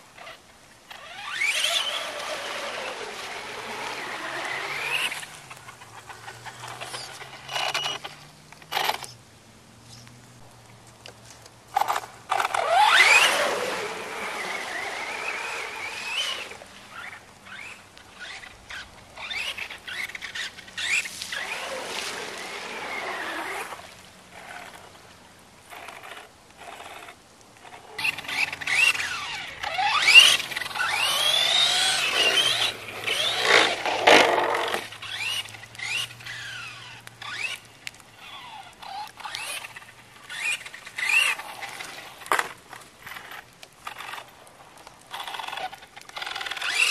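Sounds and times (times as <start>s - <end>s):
tyres churning in mud: 0.0s - 9.1s, 10.5s - 46.9s
electric toy truck motor whining: 0.2s - 9.1s, 11.8s - 24.8s, 25.7s - 44.2s, 45.1s - 46.9s.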